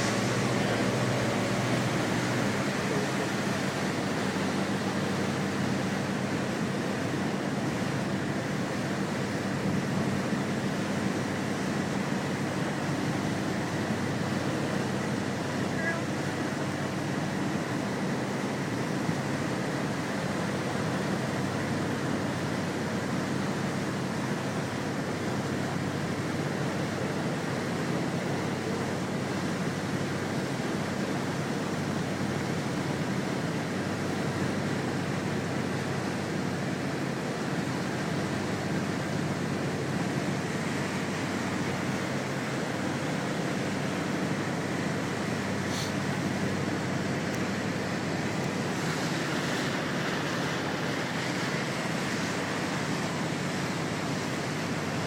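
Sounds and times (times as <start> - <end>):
motorboat engine drone: 0.0 - 55.0
water rushing: 0.0 - 55.0.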